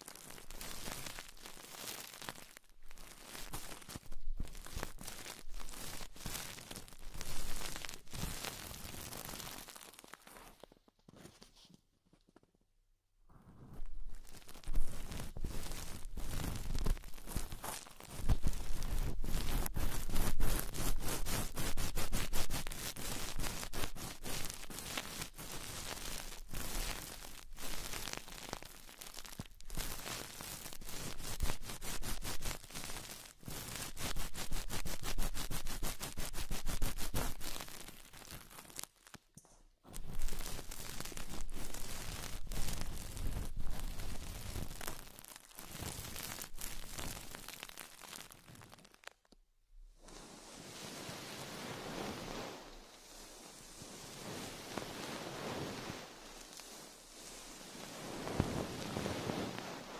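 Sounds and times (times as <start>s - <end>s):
crackling and rustling scratches: 0.0s - 59.9s.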